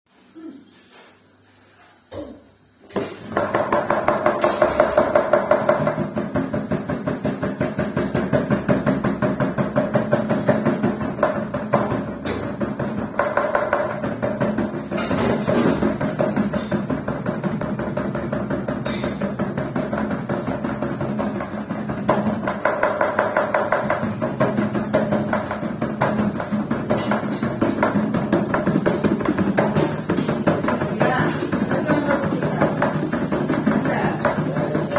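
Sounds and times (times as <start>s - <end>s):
washing machine hum: 0.1s - 34.9s
washing machine knocking: 2.9s - 34.9s.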